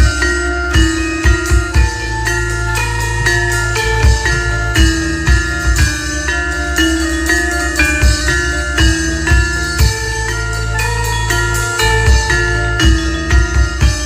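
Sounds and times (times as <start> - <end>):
gamelan music over sound system: 0.0 - 14.0.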